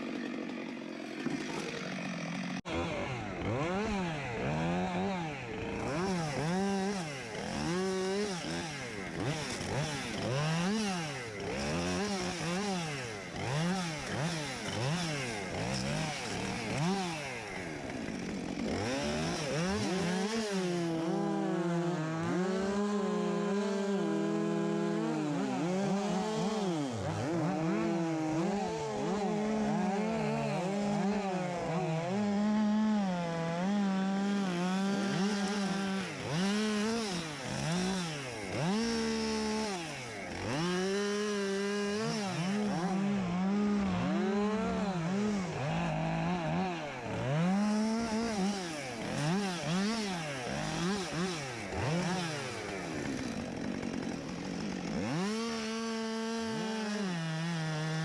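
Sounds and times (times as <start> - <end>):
chainsaw running at high revs: 0.0 - 58.0.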